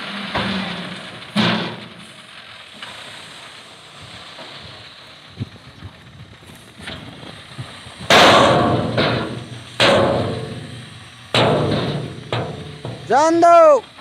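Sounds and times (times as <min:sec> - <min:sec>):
truck dumping soil crashes: 0:00.0 - 0:14.0.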